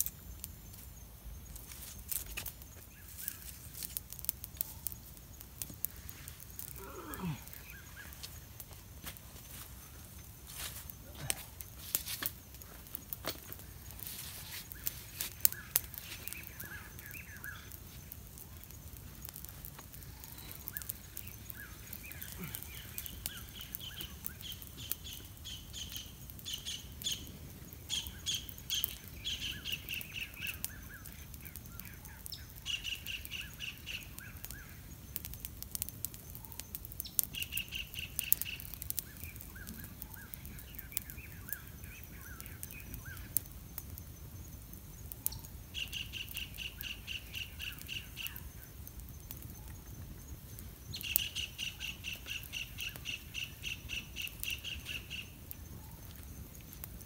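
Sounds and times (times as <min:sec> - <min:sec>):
sharp crackles: 0:00.0 - 0:57.0.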